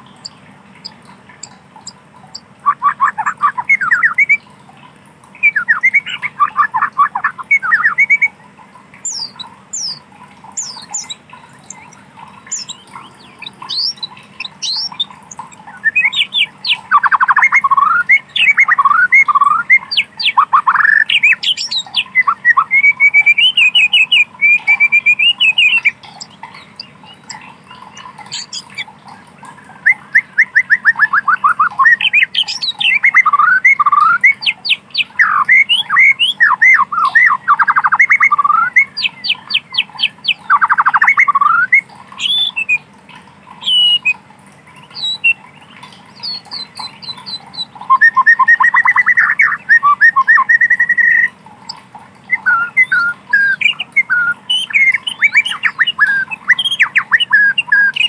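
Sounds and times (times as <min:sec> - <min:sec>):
songbird singing trills: 0:00.0 - 0:58.0.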